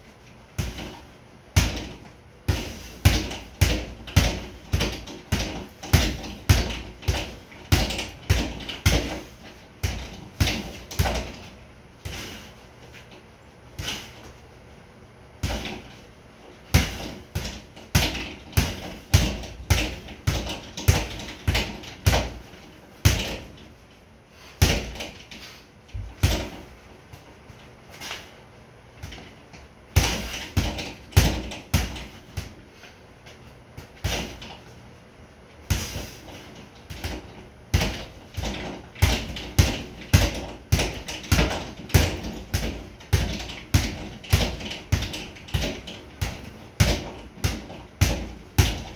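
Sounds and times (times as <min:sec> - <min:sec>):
boxing gloves punching a bag: 0:00.5 - 0:12.6, 0:13.7 - 0:14.4, 0:15.4 - 0:23.7, 0:24.4 - 0:27.2, 0:29.0 - 0:32.6, 0:33.8 - 0:34.7, 0:35.6 - 0:48.9.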